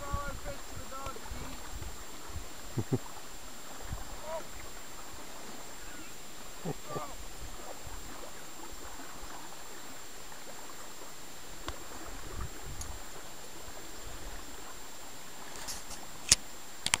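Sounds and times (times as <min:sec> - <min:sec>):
river water running over gravel: 0:00.0 - 0:17.0.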